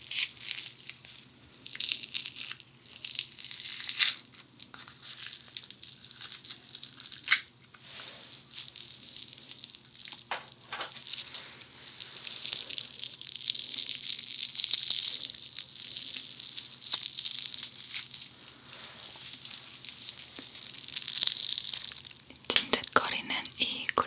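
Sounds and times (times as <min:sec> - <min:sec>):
foam beads crackling and popping: 0:00.0 - 0:24.0.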